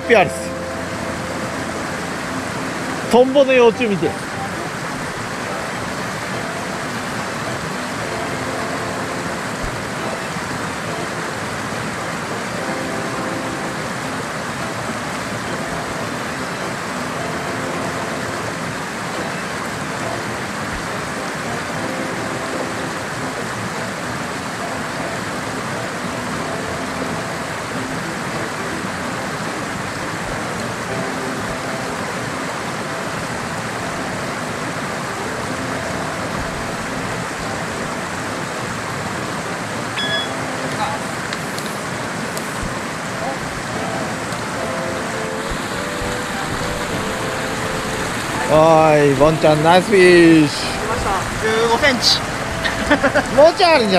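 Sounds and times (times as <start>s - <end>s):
faint background music: 0.0s - 53.9s
stream rushing over rocks: 0.0s - 53.9s.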